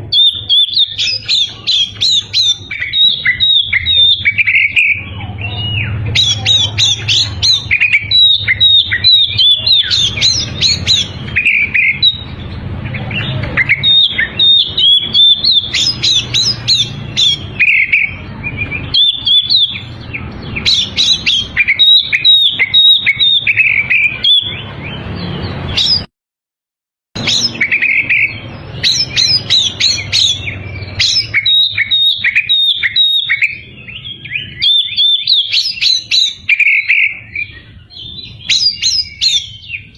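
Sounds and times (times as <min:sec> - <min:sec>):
songbird singing: 0:00.0 - 0:26.1, 0:27.2 - 0:39.9.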